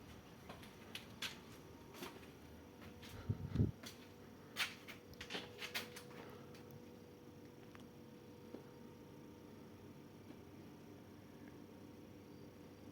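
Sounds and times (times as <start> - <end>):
faint steady hum: 0.0 - 12.9.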